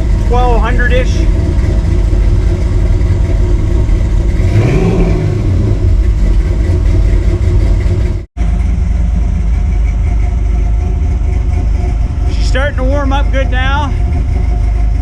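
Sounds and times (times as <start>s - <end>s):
engine fast-idling: 0.0s - 15.0s.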